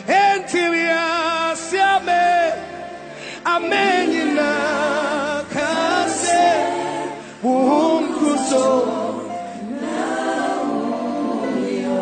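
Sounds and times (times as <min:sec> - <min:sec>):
gospel choir singing: 0:00.0 - 0:12.0.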